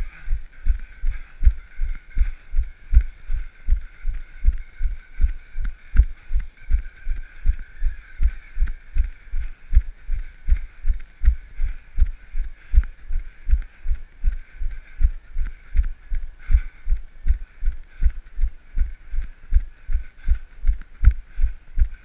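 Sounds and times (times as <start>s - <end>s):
running footsteps: 0.0s - 22.0s.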